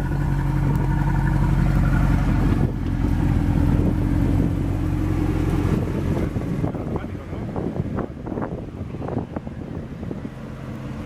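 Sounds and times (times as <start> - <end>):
car engine low exhaust note: 0.0 - 11.0.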